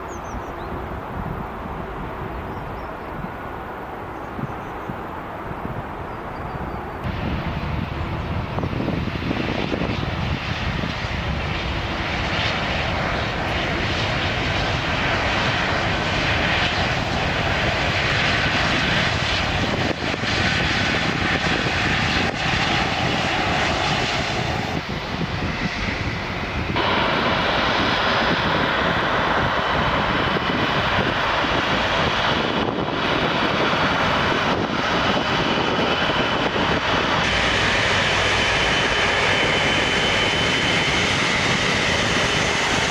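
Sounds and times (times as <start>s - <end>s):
jet engines rushing: 0.0s - 42.9s.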